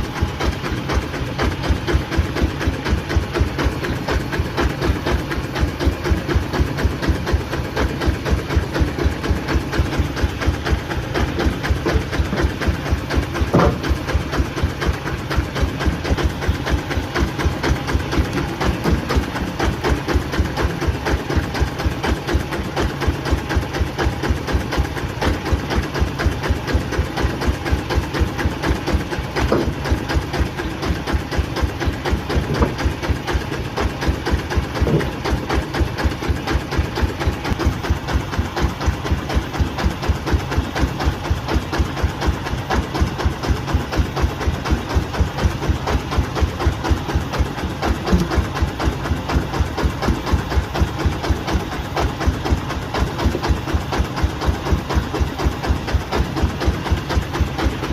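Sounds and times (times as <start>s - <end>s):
engine thumping steadily: 0.0s - 57.9s.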